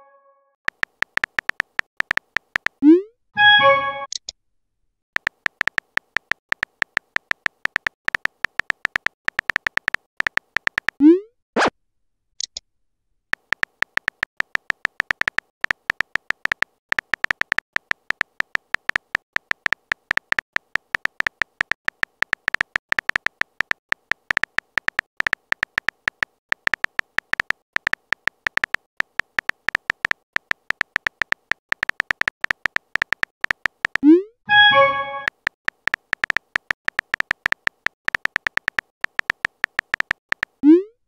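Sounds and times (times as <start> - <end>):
phone keyboard tap clicks: 0.7 - 2.8, 5.2 - 11.0, 13.4 - 40.6.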